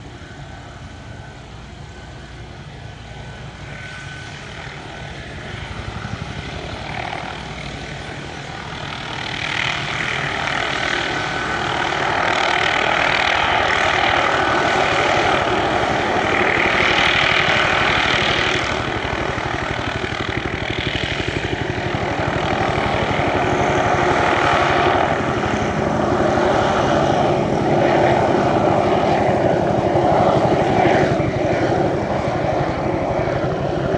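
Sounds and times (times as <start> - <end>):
helicopter running: 0.0 - 33.9.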